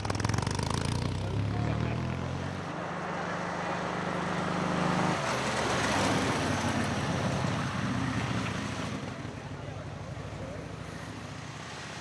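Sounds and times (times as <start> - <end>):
racing car engine pulling hard: 0.0 - 12.0.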